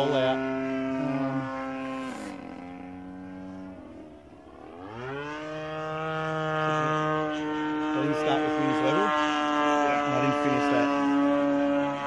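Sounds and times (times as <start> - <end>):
model airplane engine in flight: 0.0 - 12.0.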